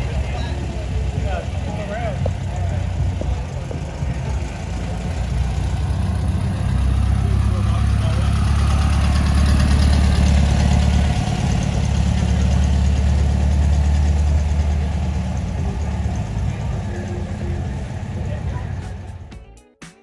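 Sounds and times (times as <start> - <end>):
car engine idling: 0.0 - 19.4.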